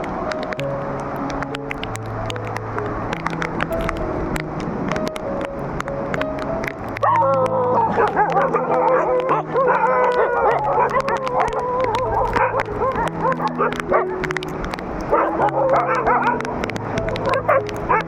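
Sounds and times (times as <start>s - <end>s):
music of slow held chords: 0.0s - 18.0s.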